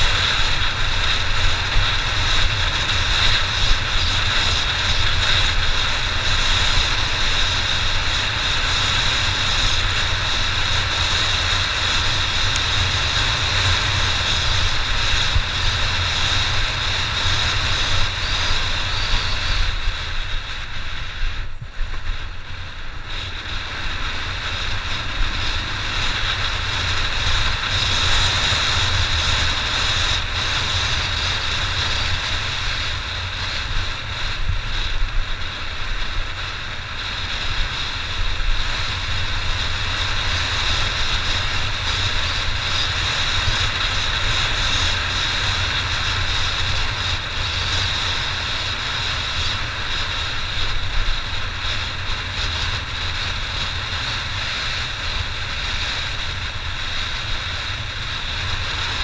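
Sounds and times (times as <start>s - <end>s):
dirt bike engine running: 0.0s - 59.0s
wind noise on microphone: 0.0s - 59.0s.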